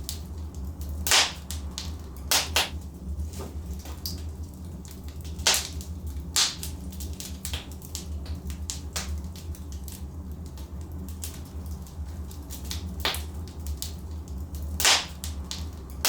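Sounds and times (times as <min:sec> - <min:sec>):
crackles and pops of burning logs: 0:00.0 - 0:16.0
low rumble of flames: 0:00.0 - 0:16.0.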